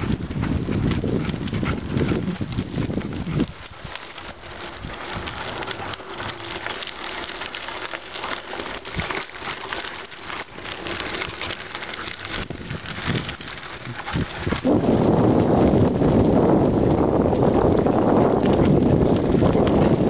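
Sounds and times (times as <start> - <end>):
bicycle tyres crunching on gravel: 0.0 - 20.0.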